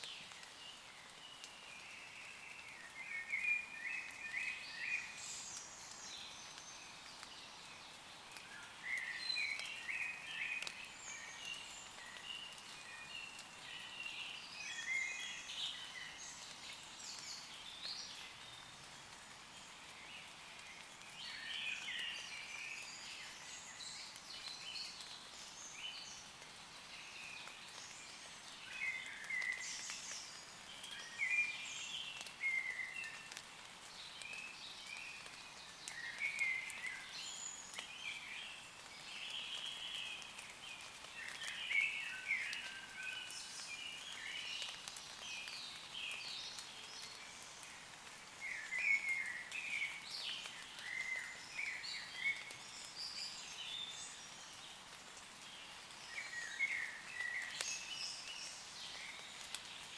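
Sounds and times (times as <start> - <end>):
gentle rain on leaves: 0.0 - 59.9.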